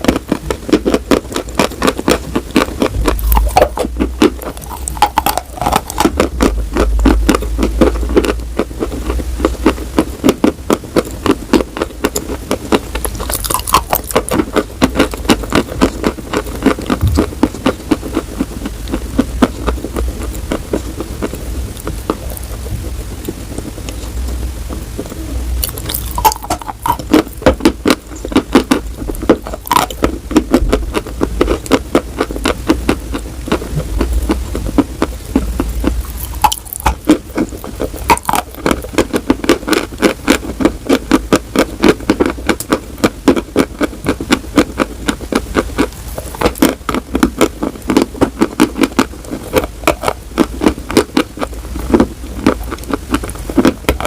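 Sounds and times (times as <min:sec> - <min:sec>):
crunchy food being chewed: 0:00.0 - 0:54.0
low steady hum: 0:00.0 - 0:54.0.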